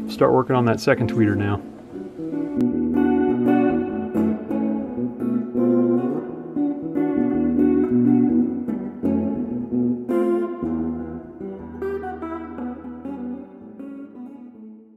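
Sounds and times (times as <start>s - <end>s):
plucked guitar-like notes: 0.0s - 14.9s.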